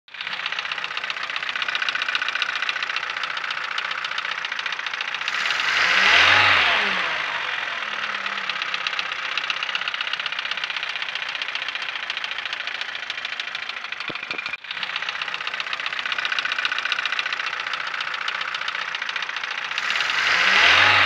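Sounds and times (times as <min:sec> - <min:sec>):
car engine running: 0:00.1 - 0:21.0
rapid engine ticking: 0:00.1 - 0:21.0.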